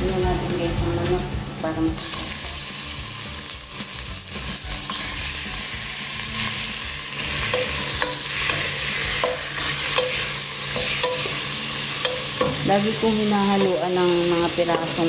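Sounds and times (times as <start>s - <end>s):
chicken sizzling in oil: 2.0s - 15.0s.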